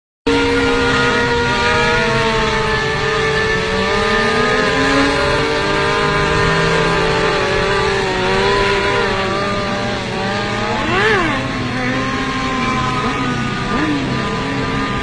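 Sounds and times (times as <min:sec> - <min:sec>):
motorcycle engine running: 0:00.3 - 0:15.0.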